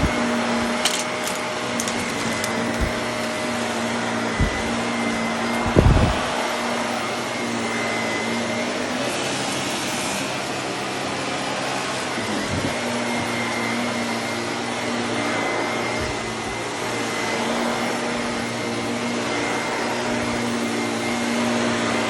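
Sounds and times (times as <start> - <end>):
vacuum cleaner whining: 0.0 - 22.0.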